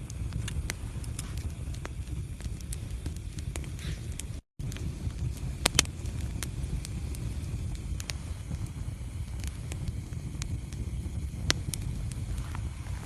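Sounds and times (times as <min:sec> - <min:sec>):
fire crackles and pops: 0:00.0 - 0:13.0
fire flames rumbling: 0:00.0 - 0:13.0.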